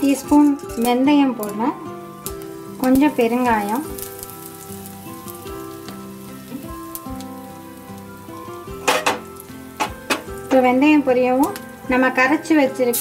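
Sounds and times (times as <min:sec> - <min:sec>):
soft instrumental music: 0:00.0 - 0:13.0
spices sizzling in hot oil: 0:00.0 - 0:13.0.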